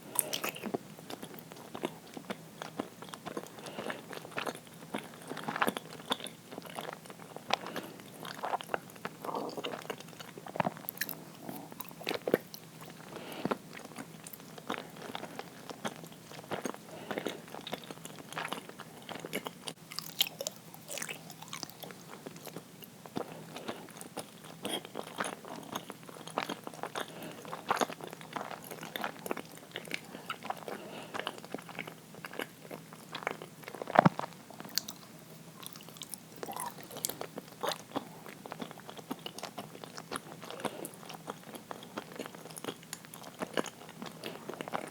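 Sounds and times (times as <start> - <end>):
person chewing wetly: 0.1 - 44.9.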